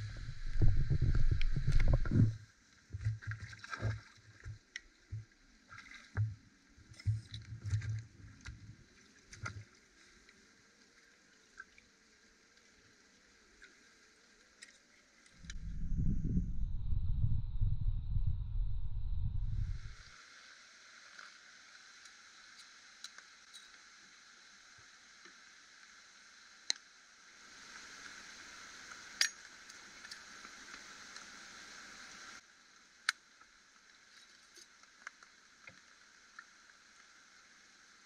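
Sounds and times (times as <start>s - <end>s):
faint steady hiss: 0.0s - 17.6s, 18.4s - 38.0s.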